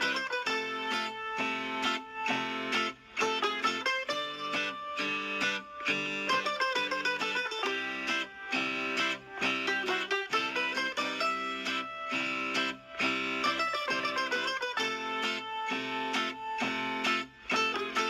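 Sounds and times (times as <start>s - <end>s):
plucked guitar music: 0.0s - 18.0s.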